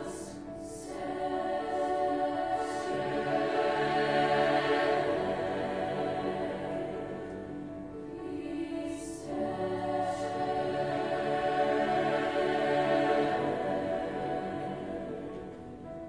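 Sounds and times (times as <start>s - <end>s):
mixed choir singing chords: 0.0s - 16.0s.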